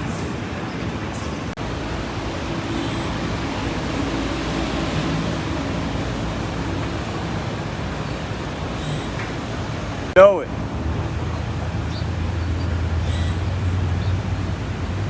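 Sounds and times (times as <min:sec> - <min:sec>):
street traffic noise: 0:00.0 - 0:15.0
car engine humming: 0:01.5 - 0:15.0.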